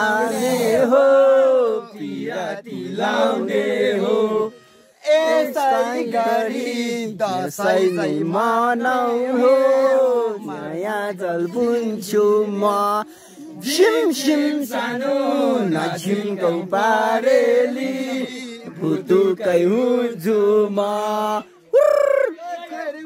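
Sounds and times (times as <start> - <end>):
man singing unaccompanied: 0.0 - 21.5.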